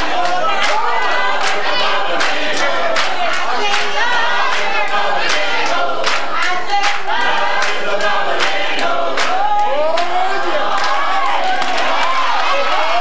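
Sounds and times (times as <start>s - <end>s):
gospel singing: 0.0s - 13.0s
handclaps: 0.0s - 13.0s.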